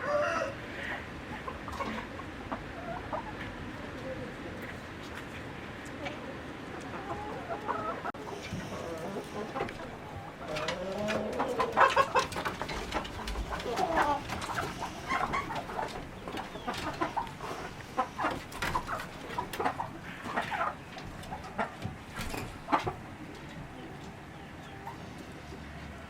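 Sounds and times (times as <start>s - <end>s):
chickens clucking and calling: 0.0s - 26.0s.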